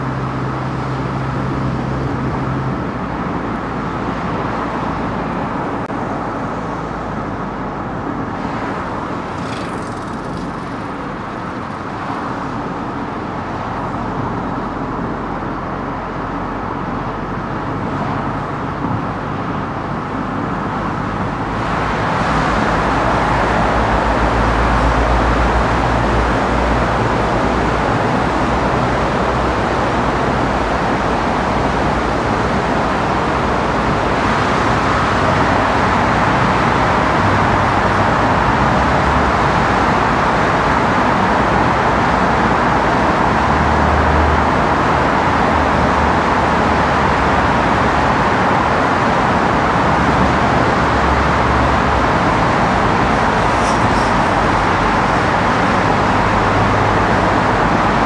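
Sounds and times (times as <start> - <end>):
tyre and engine rumble: 0.0 - 58.0.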